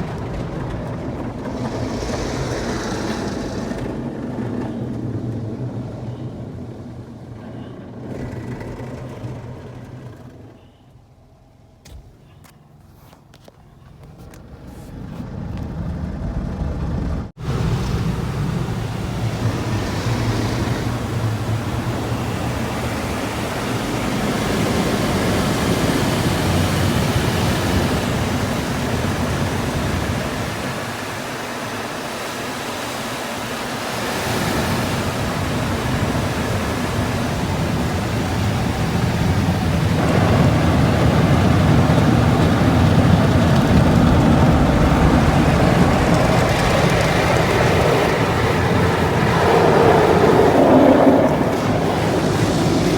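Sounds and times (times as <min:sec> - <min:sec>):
car wash water spraying: 0:00.0 - 0:07.3, 0:11.8 - 0:52.9.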